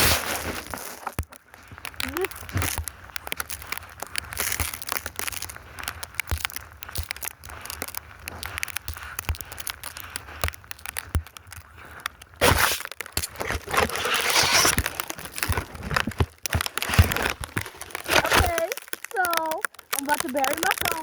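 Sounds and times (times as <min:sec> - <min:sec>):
snow crunching and scraping: 0:00.0 - 0:21.0.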